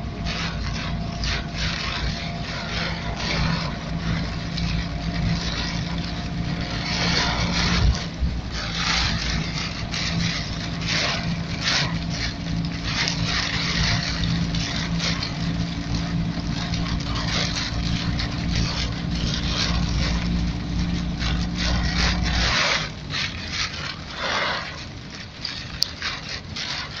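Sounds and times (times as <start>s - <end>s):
car engine running: 0.0s - 27.0s
tyres hissing on wet road: 0.0s - 27.0s.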